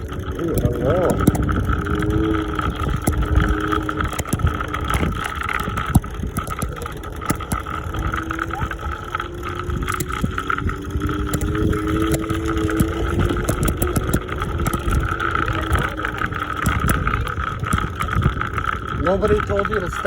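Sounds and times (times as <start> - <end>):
scooter wheels rumbling over pavement: 0.0 - 20.0
steady high whine: 0.0 - 20.0
wind on microphone: 0.0 - 20.0.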